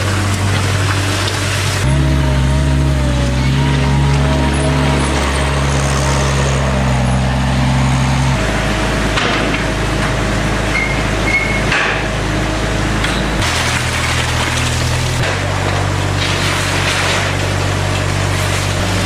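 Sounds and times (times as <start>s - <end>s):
loader engine droning: 0.0s - 19.0s.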